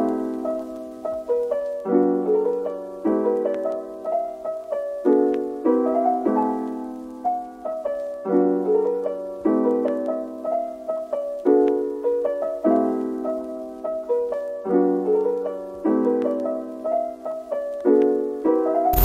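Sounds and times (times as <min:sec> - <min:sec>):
soft piano chords: 0:00.0 - 0:19.0.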